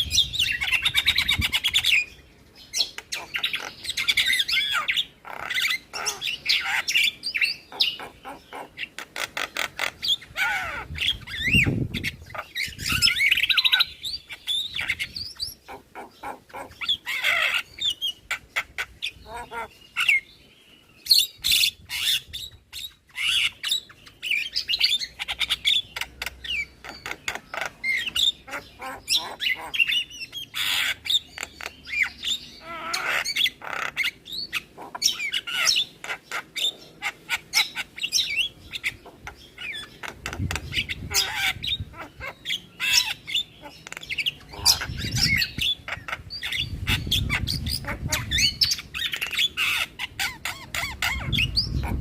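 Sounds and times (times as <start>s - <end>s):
myna bird song: 0.0s - 52.0s.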